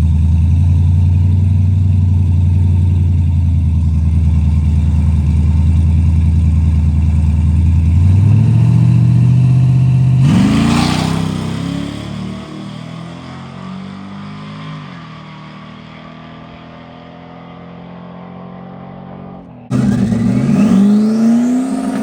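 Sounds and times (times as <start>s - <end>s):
drag racing engine idling and revving: 0.0s - 22.0s.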